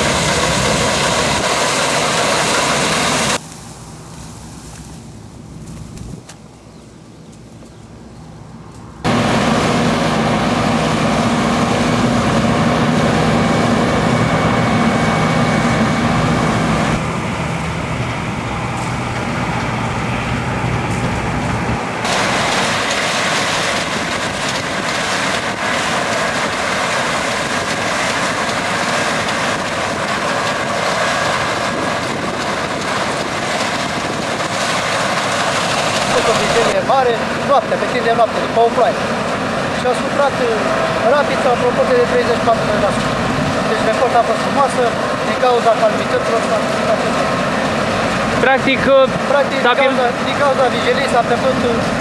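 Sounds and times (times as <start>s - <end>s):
combine harvester engine and threshing: 0.0s - 52.0s.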